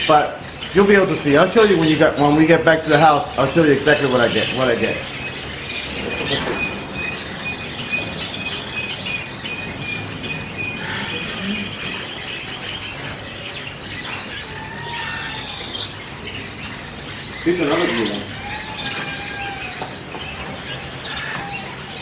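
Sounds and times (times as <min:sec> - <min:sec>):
canaries singing and chirping: 0:00.0 - 0:22.0.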